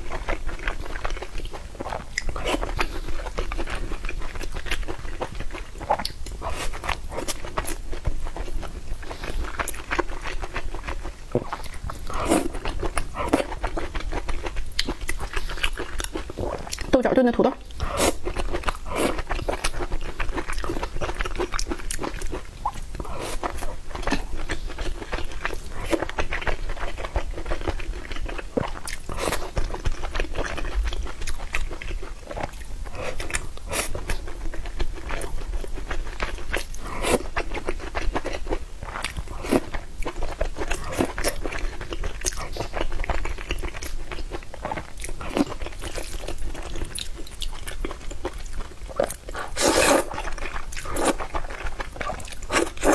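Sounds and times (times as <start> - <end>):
person chewing and crunching: 0.0 - 17.0, 17.6 - 52.9.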